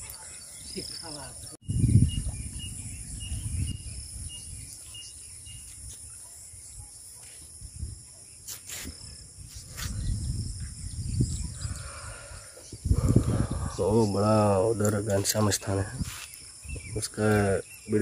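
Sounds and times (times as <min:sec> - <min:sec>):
insects chirping shrilly: 0:00.0 - 0:18.0.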